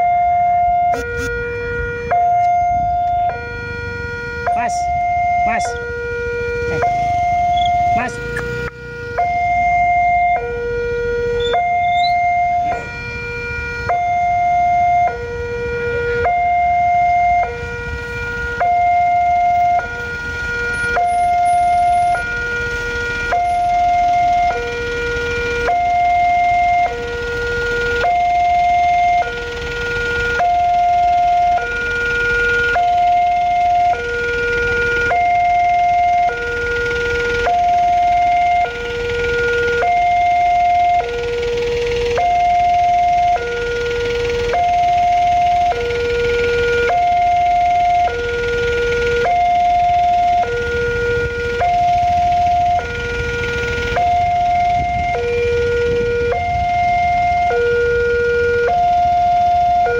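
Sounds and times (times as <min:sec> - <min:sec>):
two-tone level crossing alarm: 0:00.0 - 0:59.9.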